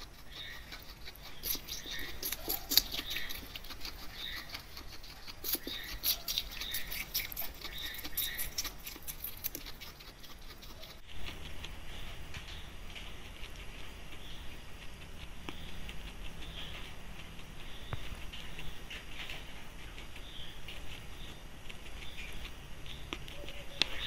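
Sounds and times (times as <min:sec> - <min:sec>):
guinea pig crunching fruit: 0:00.0 - 0:24.0.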